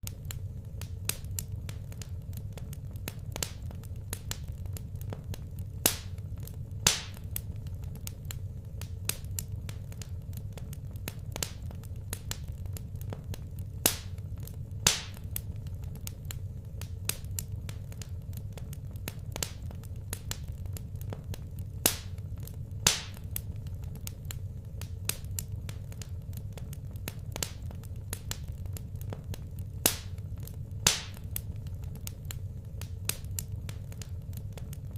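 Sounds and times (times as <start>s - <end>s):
fire popping: 0.0s - 34.9s
low steady fire rumble: 0.0s - 34.9s
wood fire crackling: 0.0s - 34.9s.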